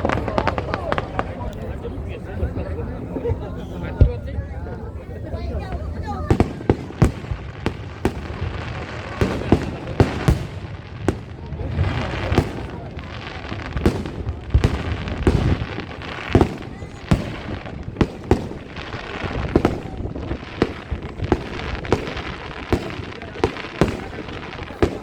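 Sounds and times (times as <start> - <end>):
firework bangs: 0.0 - 2.7, 5.6 - 25.0
fireworks crackling: 0.0 - 25.0.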